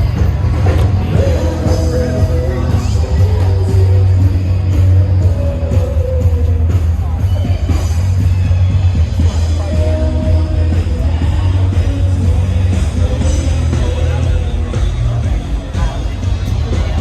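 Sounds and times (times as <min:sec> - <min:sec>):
loud rock music with singing: 0:00.0 - 0:17.0.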